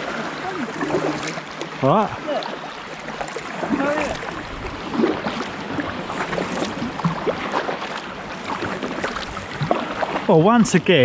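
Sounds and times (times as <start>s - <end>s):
paddle strokes: 0.0s - 10.8s
water splashing and dripping: 0.0s - 10.8s.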